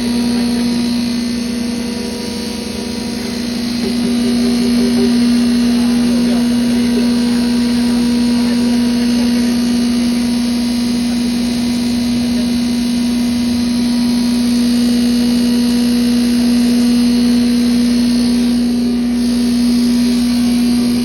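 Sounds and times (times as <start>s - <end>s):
grinding machine humming: 0.0s - 21.0s.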